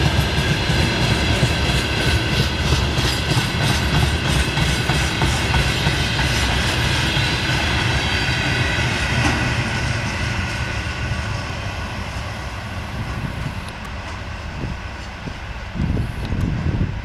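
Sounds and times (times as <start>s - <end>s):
freight train wheels clattering: 0.0s - 17.0s.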